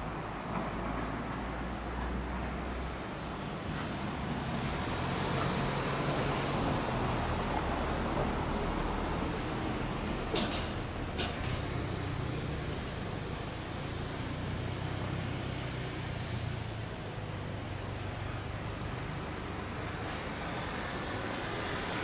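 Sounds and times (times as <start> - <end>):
electric locomotive hum and rumble: 0.0 - 22.0.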